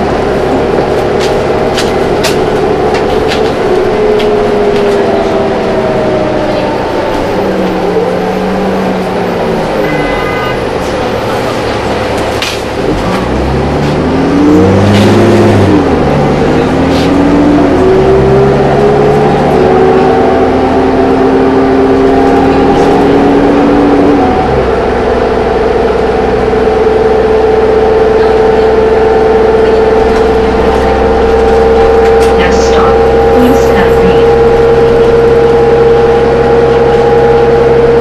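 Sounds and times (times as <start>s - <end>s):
bus diesel engine droning: 0.0s - 38.0s.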